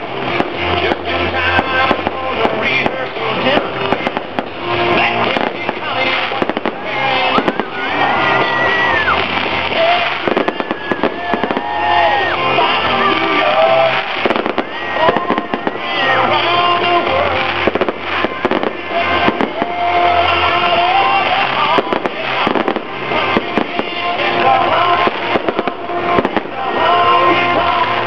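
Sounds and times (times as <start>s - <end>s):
fireworks bangs: 0.0s - 28.0s
loud music with bass line: 0.0s - 28.0s.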